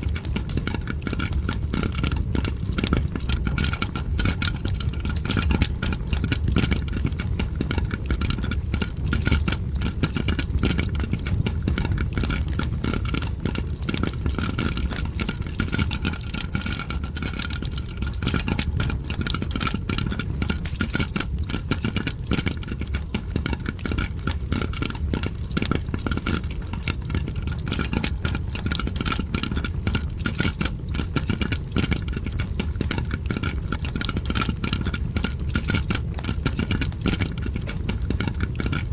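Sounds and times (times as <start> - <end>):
fire crackling: 0.0 - 38.9
popcorn popping: 0.0 - 38.9.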